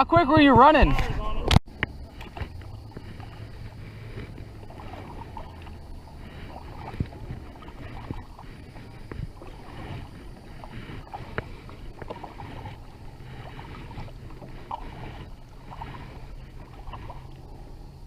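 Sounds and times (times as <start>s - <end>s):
water splashing around kayak: 0.0s - 18.0s
steady low hum: 0.9s - 18.0s.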